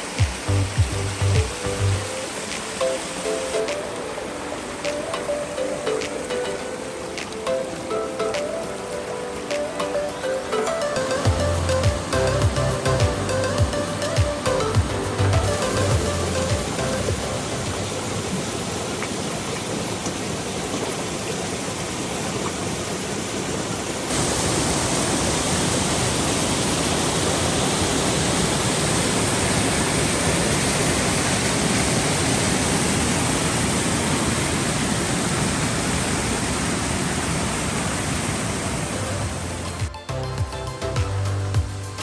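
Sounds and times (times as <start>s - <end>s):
waterfall rushing water: 0.0s - 42.0s.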